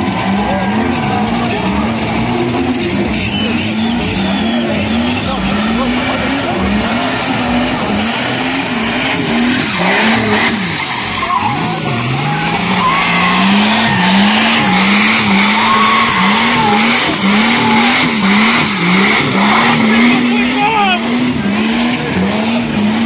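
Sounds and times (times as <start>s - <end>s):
car engine revving hard: 0.0s - 23.0s
tyres squealing on wet asphalt: 0.0s - 23.0s.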